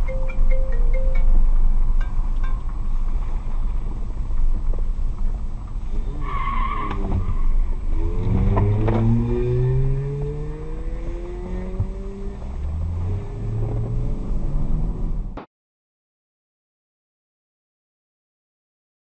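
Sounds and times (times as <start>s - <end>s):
car engine accelerating: 0.0s - 15.4s
road noise: 0.0s - 15.4s.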